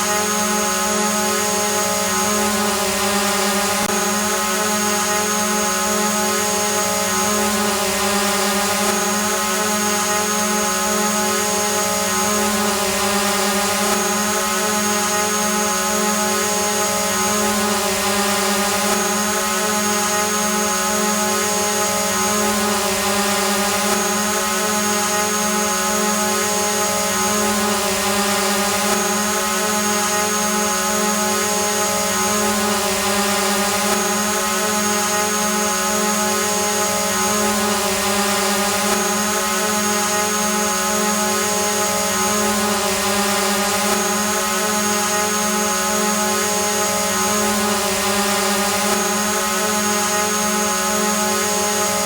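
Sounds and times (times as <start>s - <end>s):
drone propellers humming: 0.0s - 52.0s.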